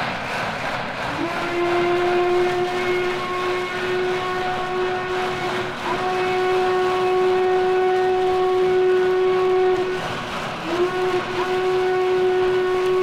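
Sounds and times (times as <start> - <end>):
train rumble: 0.0 - 13.0
steam locomotive whistle: 1.1 - 13.0.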